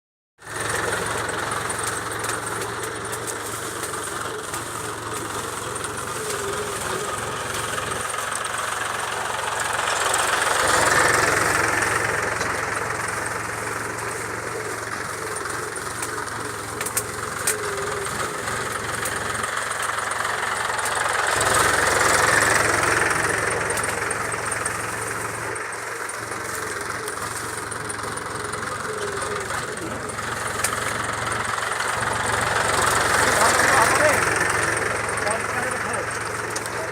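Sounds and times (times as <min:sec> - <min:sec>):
tractor diesel engine running: 0:00.4 - 0:36.9.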